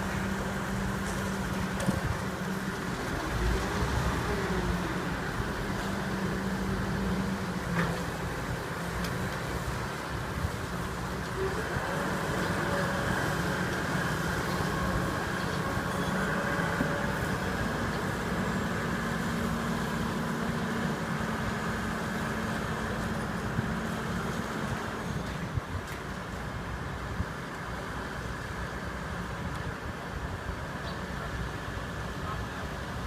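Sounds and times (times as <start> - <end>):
diesel construction machinery running: 0.0 - 33.0.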